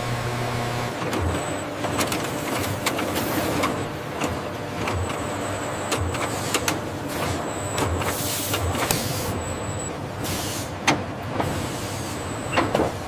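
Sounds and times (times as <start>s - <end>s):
factory machinery running: 0.0s - 13.0s.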